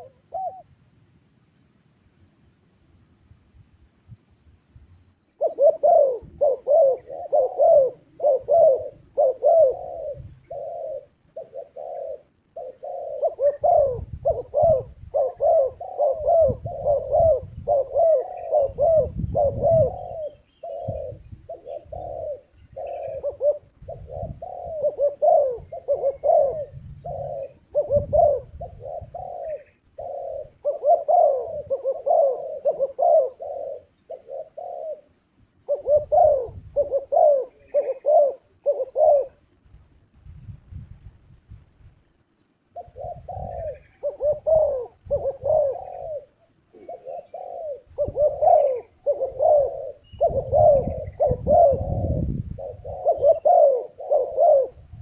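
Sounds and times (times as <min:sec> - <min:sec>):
dove cooing: 0:00.0 - 0:00.8, 0:05.3 - 0:39.5, 0:42.7 - 0:55.0.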